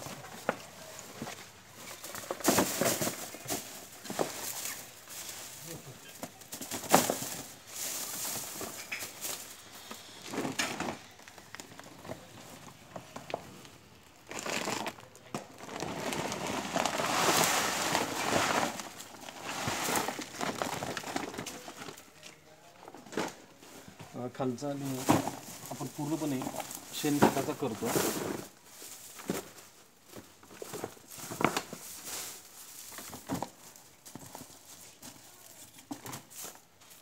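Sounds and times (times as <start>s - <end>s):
dry straw rustling and crackling: 0.0s - 22.4s, 23.8s - 37.0s.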